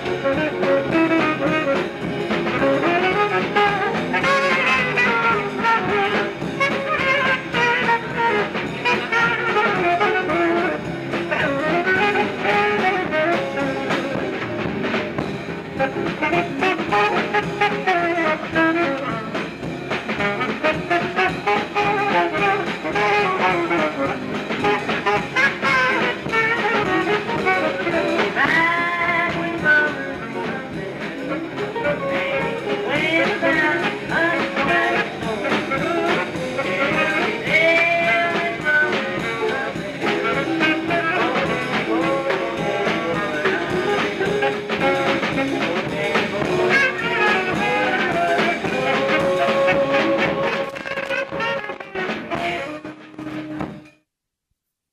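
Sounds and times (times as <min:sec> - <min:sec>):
brass instrument melody: 0:00.0 - 0:54.0
musical accompaniment: 0:00.0 - 0:54.0.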